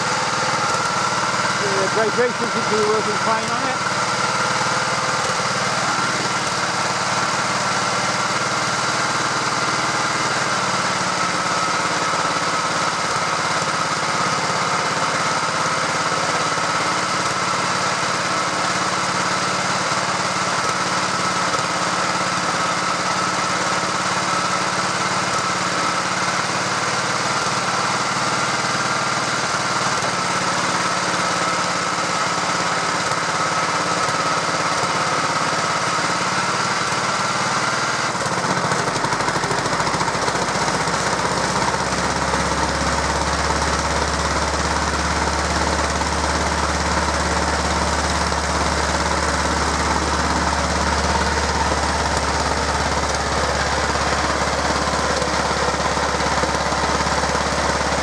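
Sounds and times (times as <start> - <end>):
vibrating roller engine running: 0.0 - 58.0.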